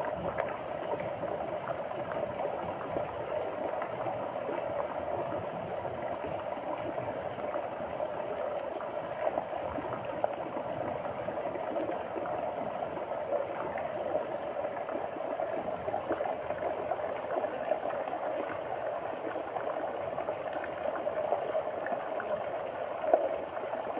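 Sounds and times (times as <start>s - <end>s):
floodwater flowing and gurgling: 0.0s - 23.9s.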